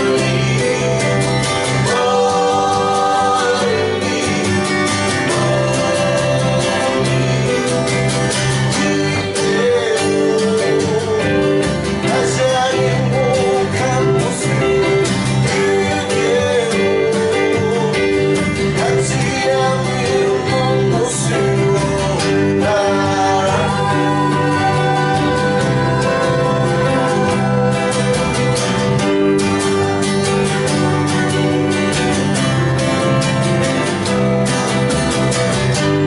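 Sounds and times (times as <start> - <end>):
person singing: 0.0 - 29.2
acoustic guitar: 0.0 - 36.0.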